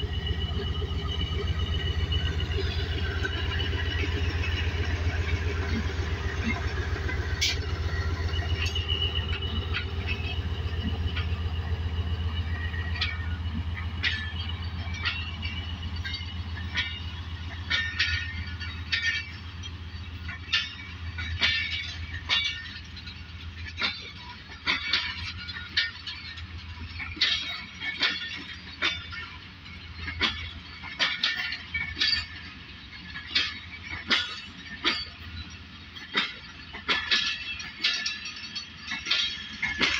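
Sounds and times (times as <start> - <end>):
locomotive engine drone: 0.0 - 39.9
metallic clanks of train wheels: 0.0 - 39.9.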